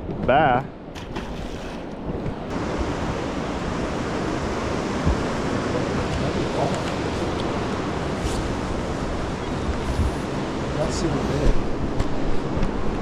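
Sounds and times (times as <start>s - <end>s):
water rushing: 0.9s - 13.0s
wind rushing: 1.4s - 13.0s.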